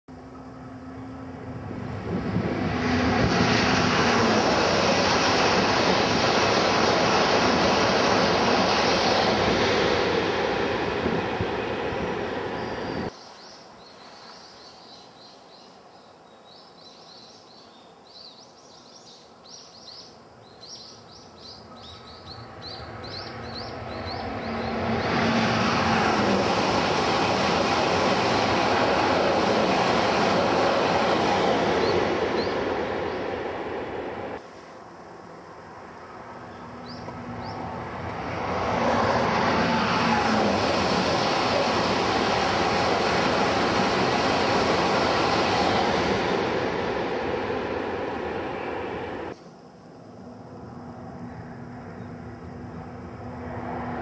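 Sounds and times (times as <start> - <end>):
high-speed train roaring past: 0.1 - 13.2, 20.7 - 54.0.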